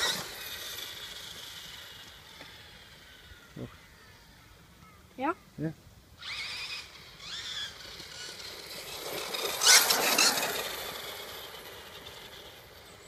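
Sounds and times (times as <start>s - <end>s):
radio-controlled car motor whine: 0.0s - 4.8s, 6.2s - 13.0s.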